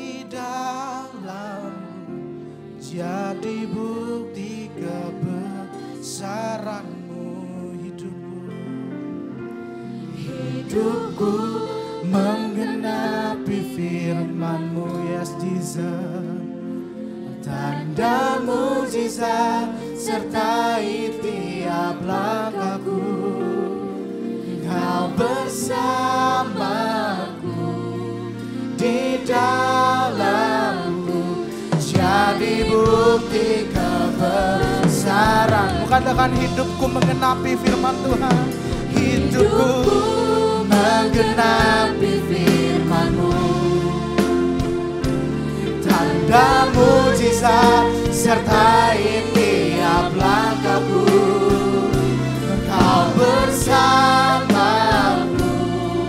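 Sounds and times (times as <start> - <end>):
singers singing together: 0.0 - 8.7, 9.7 - 56.0
sustained keyboard chords: 0.0 - 56.0.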